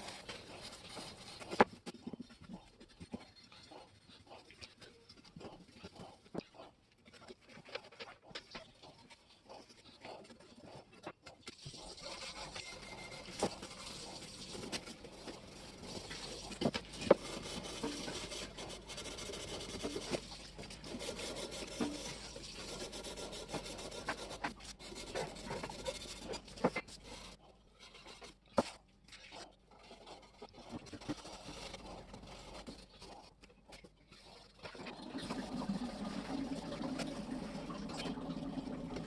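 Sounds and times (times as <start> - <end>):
hand rubbing on hard surface: 0.0 - 33.4.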